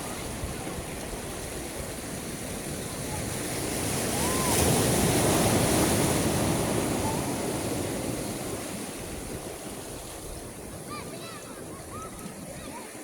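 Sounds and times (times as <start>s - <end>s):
sea waves surf: 0.0s - 13.0s.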